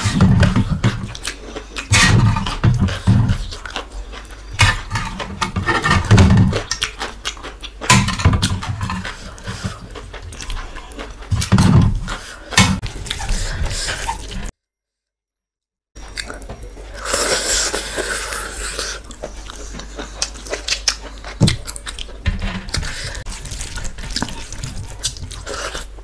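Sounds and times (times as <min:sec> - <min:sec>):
chewing and smacking: 0:00.0 - 0:14.5, 0:16.0 - 0:26.0.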